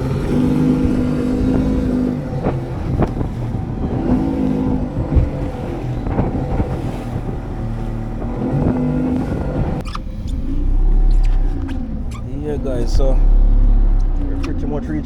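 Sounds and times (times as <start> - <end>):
vehicle engine running: 0.0 - 15.0
wind buffeting microphone: 0.0 - 15.0.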